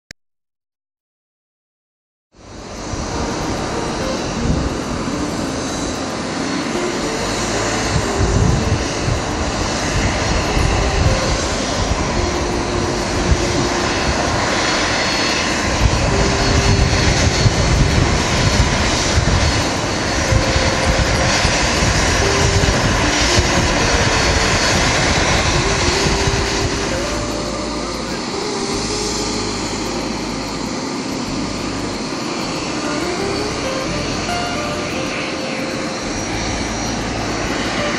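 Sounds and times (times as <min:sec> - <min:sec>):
jet engines rushing: 0:02.4 - 0:37.9.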